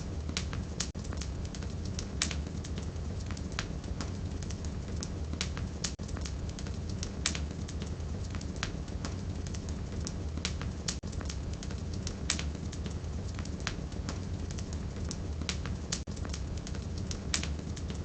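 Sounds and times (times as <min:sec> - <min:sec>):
firewood crackling and popping: 0:00.0 - 0:18.0
low rumble of flames: 0:00.0 - 0:18.0.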